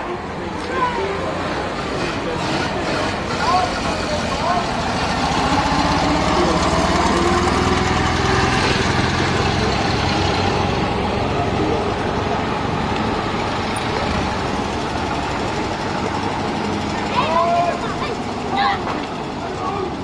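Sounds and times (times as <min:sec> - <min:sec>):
engines droning at low speed: 0:00.0 - 0:20.0.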